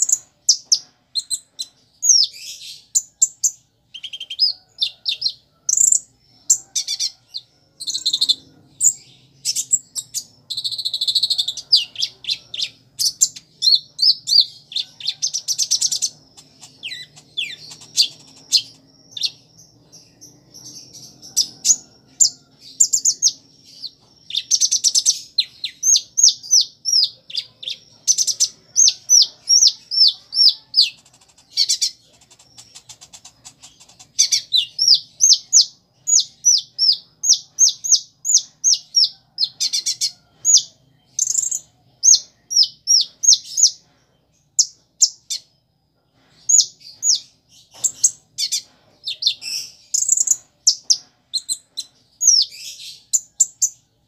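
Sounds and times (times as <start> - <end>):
sunbird chirping: 0.0 - 54.0.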